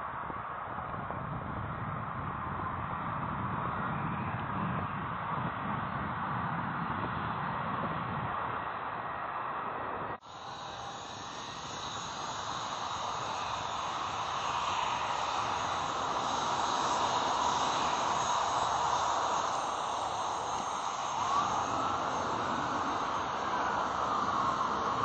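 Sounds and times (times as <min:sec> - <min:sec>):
jet engines roaring with whine: 0:00.0 - 0:25.0.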